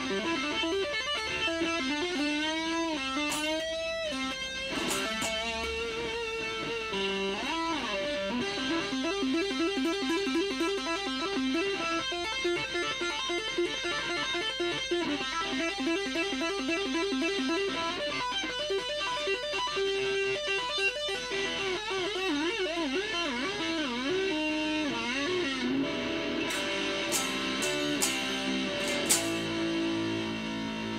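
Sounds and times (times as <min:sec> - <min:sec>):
distorted electric guitar: 0:00.0 - 0:30.9.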